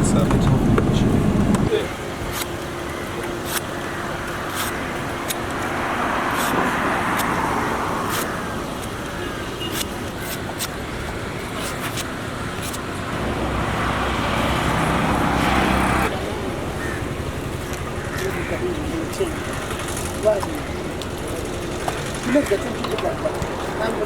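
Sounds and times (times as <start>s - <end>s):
low engine hum: 0.0s - 24.0s
vehicles passing: 0.0s - 24.0s.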